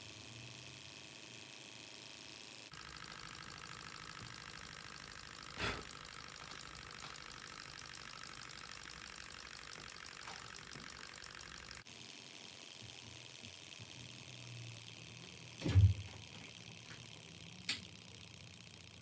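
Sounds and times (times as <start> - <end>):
small engine mechanical clatter: 0.0 - 19.0.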